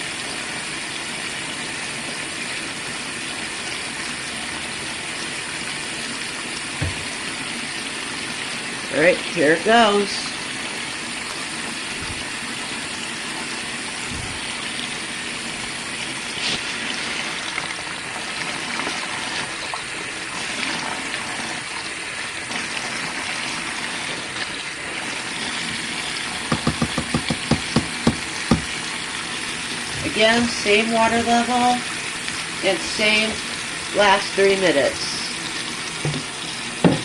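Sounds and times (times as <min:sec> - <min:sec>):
washing machine filling with water: 0:00.0 - 0:37.0.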